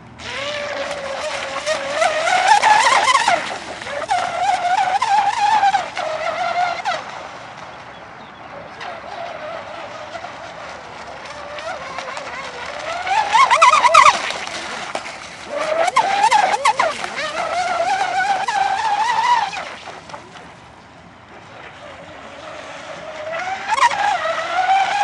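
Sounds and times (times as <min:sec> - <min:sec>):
rc boat motor whine: 0:00.0 - 0:25.0.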